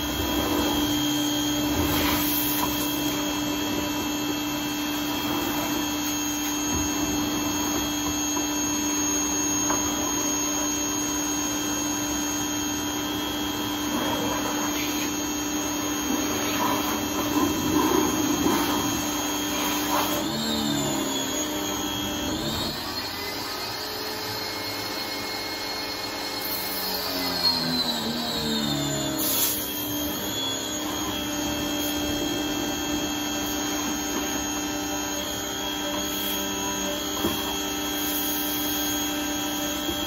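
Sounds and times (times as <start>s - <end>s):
pressure washer motor whine: 0.0s - 40.0s.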